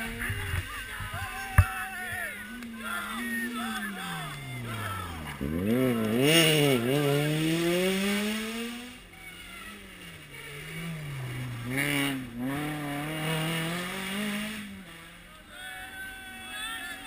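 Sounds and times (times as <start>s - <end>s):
rally car engine accelerating: 0.0s - 15.4s.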